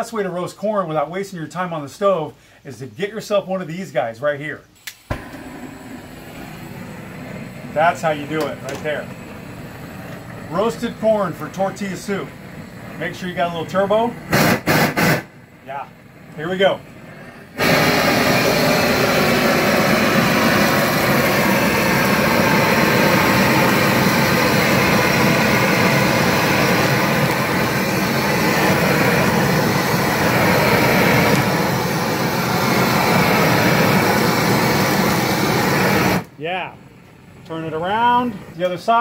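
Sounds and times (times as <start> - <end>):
gas torch flame rushing: 4.8 - 36.4.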